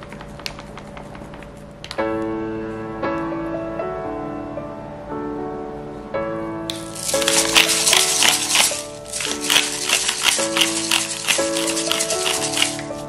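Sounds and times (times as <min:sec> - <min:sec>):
piano chords: 0:02.0 - 0:13.0.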